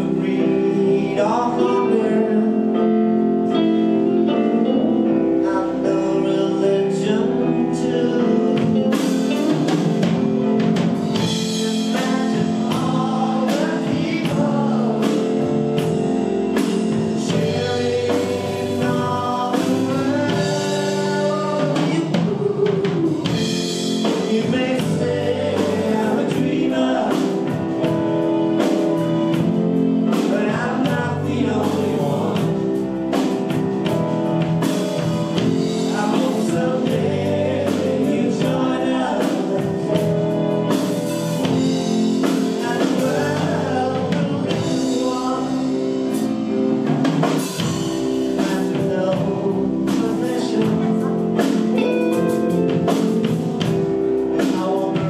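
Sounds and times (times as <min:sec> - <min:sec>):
live rock band playing: 0:00.0 - 0:55.0
person singing: 0:00.0 - 0:55.0.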